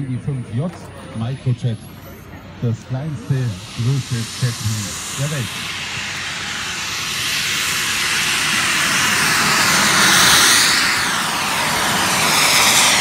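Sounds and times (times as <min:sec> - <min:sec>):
jet turbine roar: 0:00.0 - 0:13.0.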